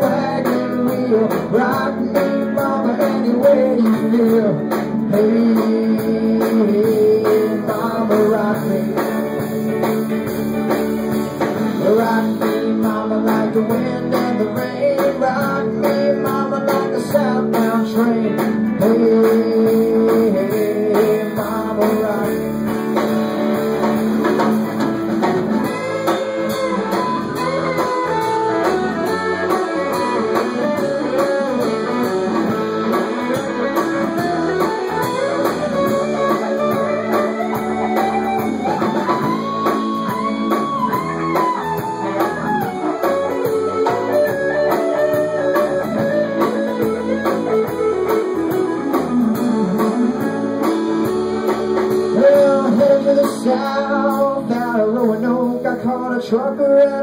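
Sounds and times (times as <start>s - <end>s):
folk-country guitars playing: 0.0s - 57.0s.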